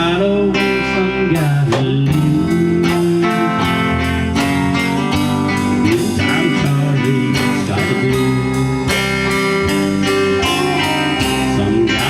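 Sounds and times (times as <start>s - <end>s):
guitar-led band music: 0.0s - 12.0s
person singing: 0.0s - 12.0s.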